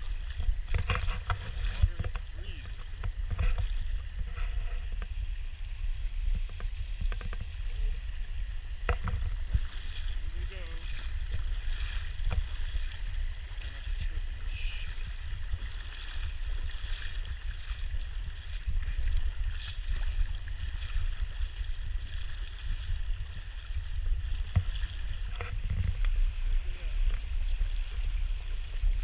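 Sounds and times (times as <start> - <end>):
river water rushing over rocks: 0.0 - 29.0
water splashes: 0.0 - 29.0
wind rumble on microphone: 0.0 - 29.0.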